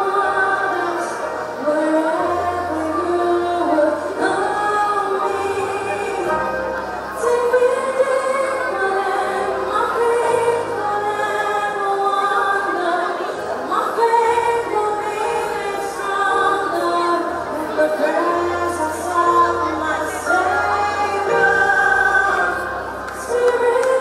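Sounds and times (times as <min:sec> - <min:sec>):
woman singing into microphone: 0:00.0 - 0:24.0.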